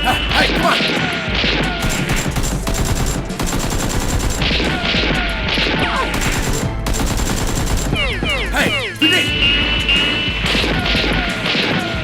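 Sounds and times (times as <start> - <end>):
rapid gunfire: 0.0 - 9.2, 10.4 - 12.0
background music: 0.0 - 12.0.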